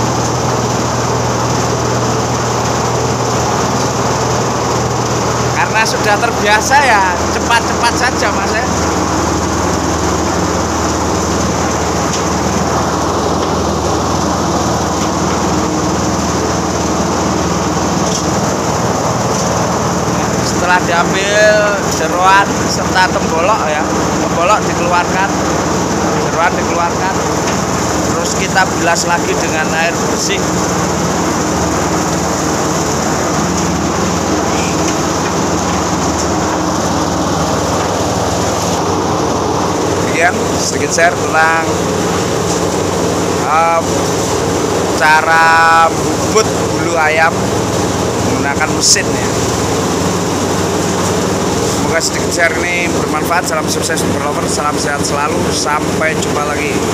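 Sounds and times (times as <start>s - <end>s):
machine motor hum with hiss: 0.0s - 56.9s.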